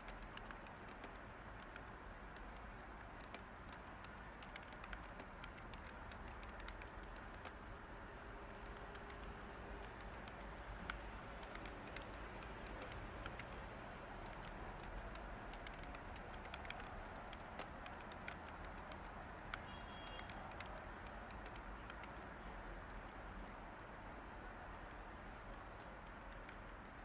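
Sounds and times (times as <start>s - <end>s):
computer keyboard keystrokes: 0.0s - 7.6s, 8.6s - 23.2s, 25.8s - 27.0s.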